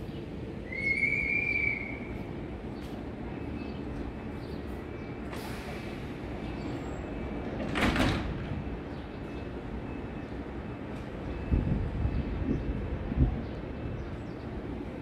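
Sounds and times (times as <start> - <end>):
train rumbling at platform: 0.0 - 15.0.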